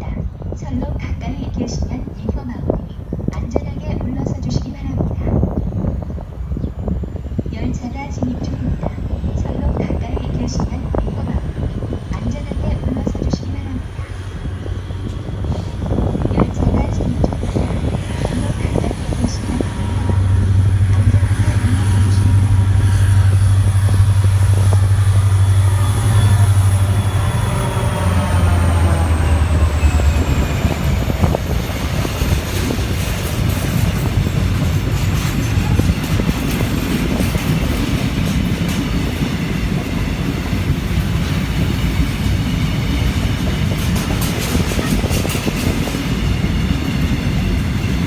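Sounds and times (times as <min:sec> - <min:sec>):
freight wagons rumbling on rails: 0:00.0 - 0:48.0
locomotive engine drone and whine: 0:00.3 - 0:48.0.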